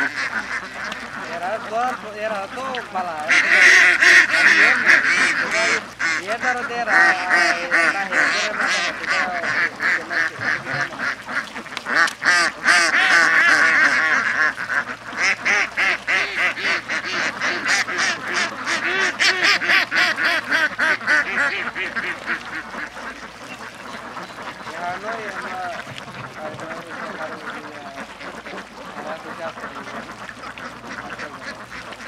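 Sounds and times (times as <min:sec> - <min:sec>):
waterfowl calling: 0:00.0 - 0:32.0.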